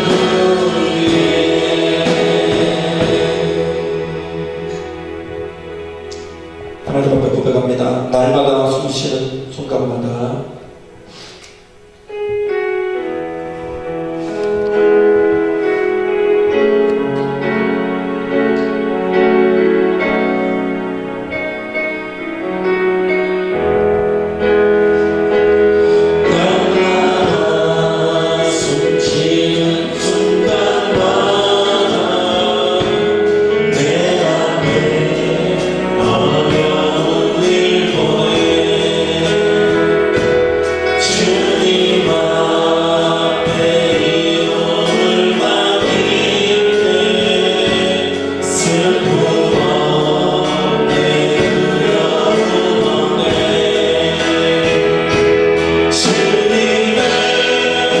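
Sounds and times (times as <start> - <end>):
congregation singing: 0.0 - 58.0
live band playing: 0.0 - 58.0.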